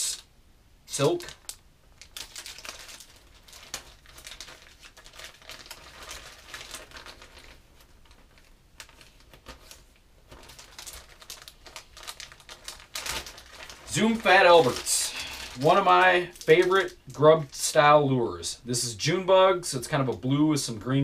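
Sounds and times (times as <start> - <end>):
plastic packets crinkling: 0.9 - 17.9.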